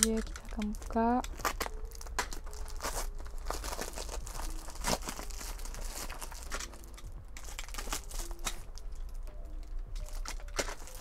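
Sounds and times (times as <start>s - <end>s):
paper and tape crinkling and tearing: 0.0s - 11.0s.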